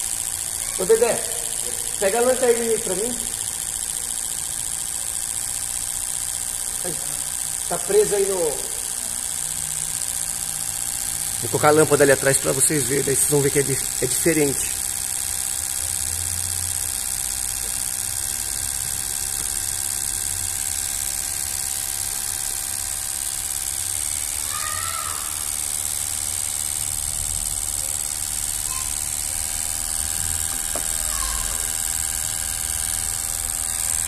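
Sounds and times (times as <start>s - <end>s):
machine low hum: 0.0s - 34.0s.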